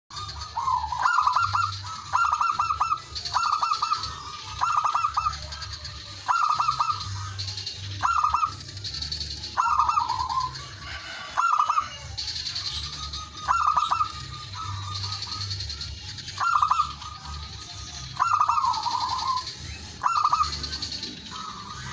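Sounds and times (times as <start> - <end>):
dove cooing: 0.2 - 7.4, 8.0 - 8.7, 9.5 - 15.6, 16.4 - 17.4, 18.1 - 21.9.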